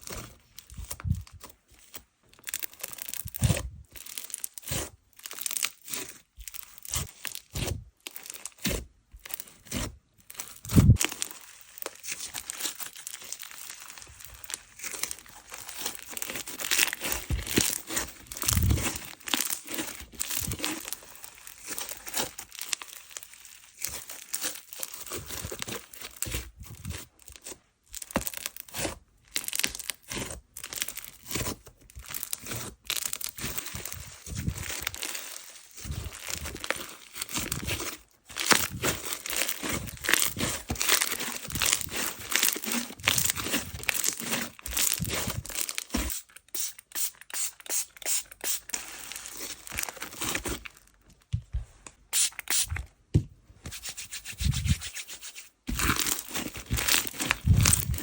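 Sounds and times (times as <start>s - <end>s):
slime squishing and crackling: 0.0s - 46.7s, 48.0s - 51.1s, 55.6s - 58.0s.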